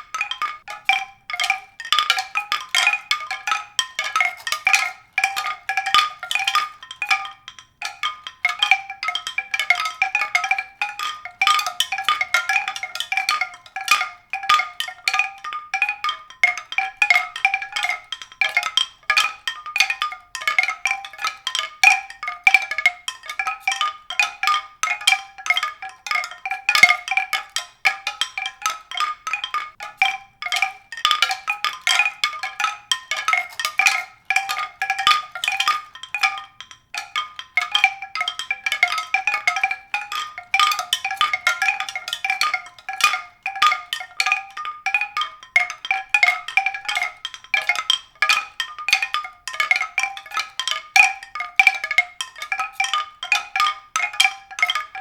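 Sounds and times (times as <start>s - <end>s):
tuned percussion notes ringing: 0.0s - 55.0s.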